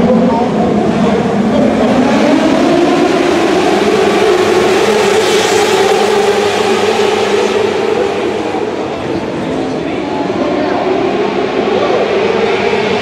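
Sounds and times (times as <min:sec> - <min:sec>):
racing car engines at high revs: 0:00.0 - 0:13.0.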